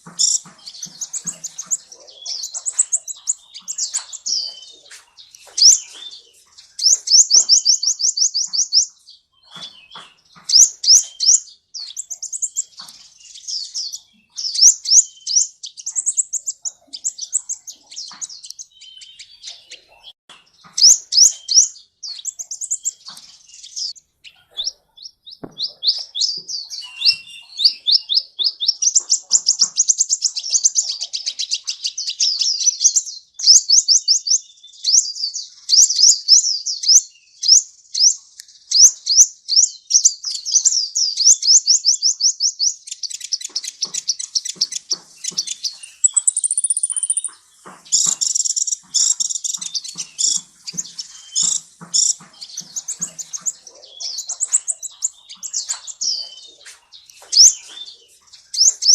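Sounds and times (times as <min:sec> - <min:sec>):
sunbird song trills: 0:00.0 - 0:58.9.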